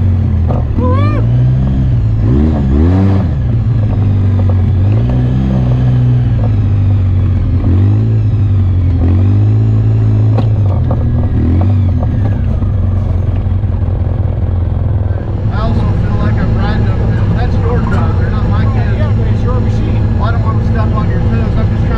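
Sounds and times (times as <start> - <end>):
off-road vehicle engine: 0.0 - 21.9.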